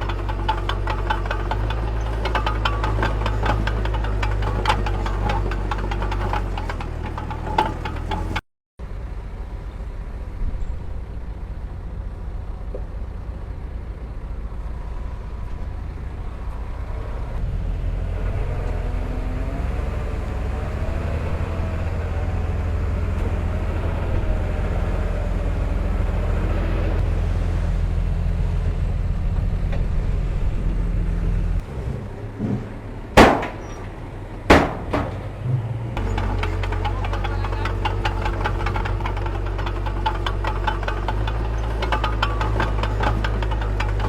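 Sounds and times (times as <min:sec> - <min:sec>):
heavy machinery diesel engine: 0:00.0 - 0:10.4, 0:11.0 - 0:44.0.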